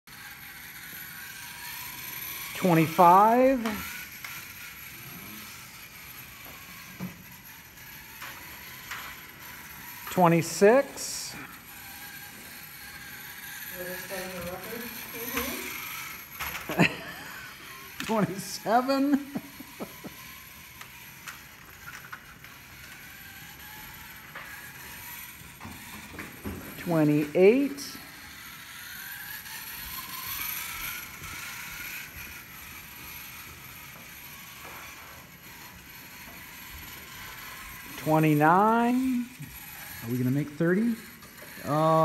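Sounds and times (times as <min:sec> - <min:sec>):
rc car motor whirring: 0:00.1 - 0:42.0.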